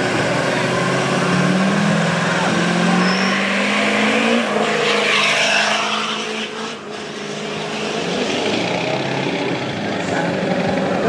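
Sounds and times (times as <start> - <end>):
diesel pickup engine revving: 0.0 - 11.0.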